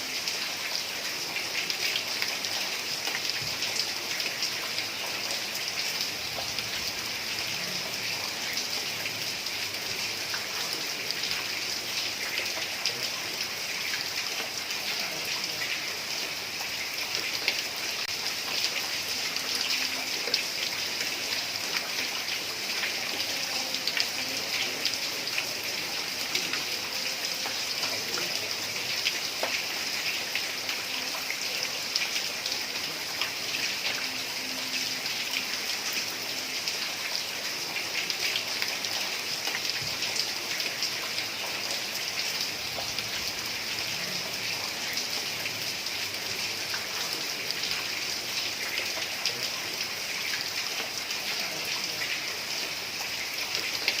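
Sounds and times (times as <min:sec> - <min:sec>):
heavy rain on tiled roof: 0:00.0 - 0:54.0.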